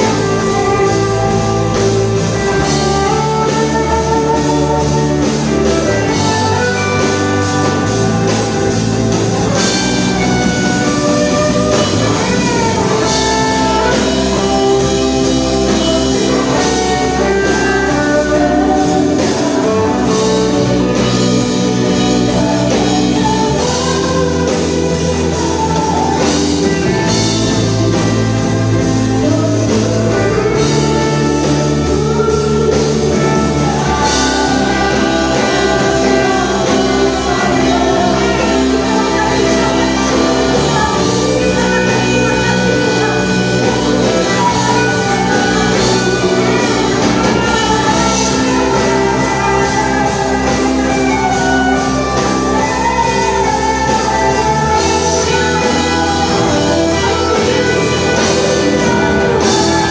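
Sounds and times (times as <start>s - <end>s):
bass guitar: 0.0s - 59.9s
drum kit: 0.0s - 59.9s
electric guitar: 0.0s - 59.9s
keyboard: 0.0s - 59.9s
women singing: 0.0s - 59.9s.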